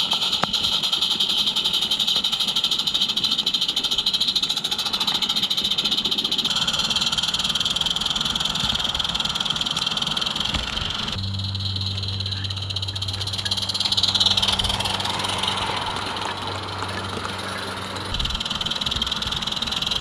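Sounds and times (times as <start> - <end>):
frogs trilling: 0.0 - 20.0.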